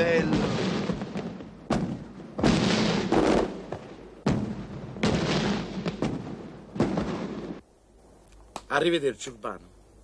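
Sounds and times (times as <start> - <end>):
fireworks bangs with hiss: 0.0 - 9.4.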